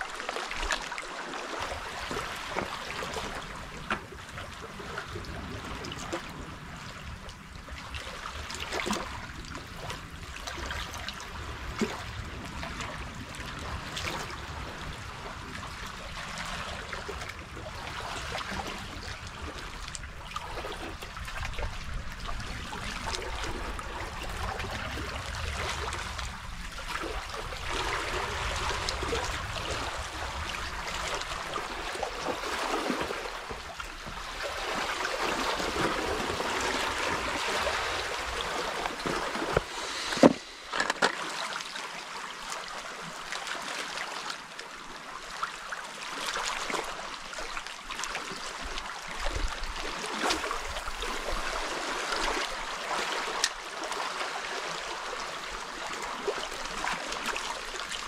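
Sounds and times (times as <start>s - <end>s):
waves lapping on rocks: 0.0s - 58.0s.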